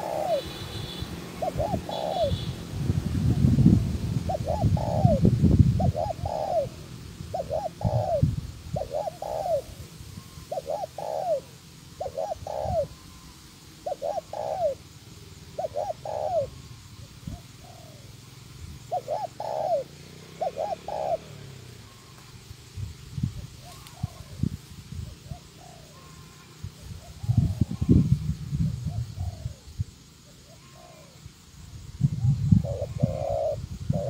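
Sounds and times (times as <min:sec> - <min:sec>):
dove cooing: 0:00.0 - 0:02.6, 0:04.2 - 0:18.2, 0:18.8 - 0:22.3, 0:23.6 - 0:28.0, 0:28.8 - 0:31.2, 0:32.1 - 0:34.0.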